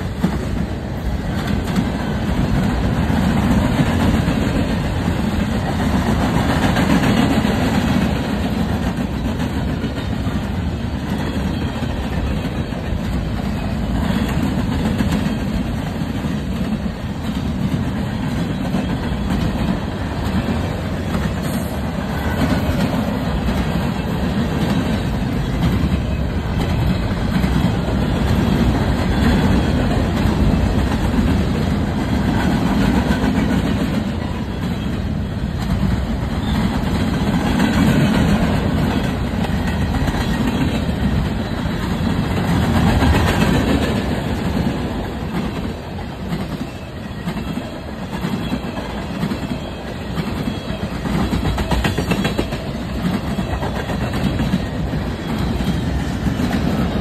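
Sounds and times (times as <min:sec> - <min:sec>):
train wheels rumbling on rails: 0:00.0 - 0:57.0
wheels clattering over rail joints: 0:00.0 - 0:57.0.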